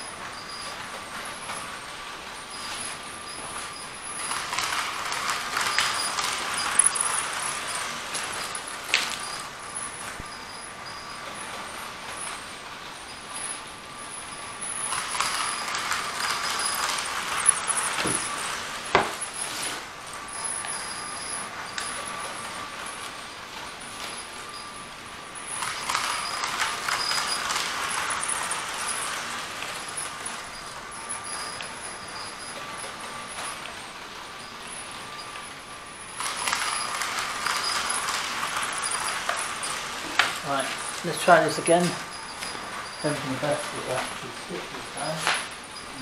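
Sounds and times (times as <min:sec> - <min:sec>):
model train motor whine: 0:00.0 - 0:46.0
wheels clicking over rail joints: 0:00.2 - 0:46.0.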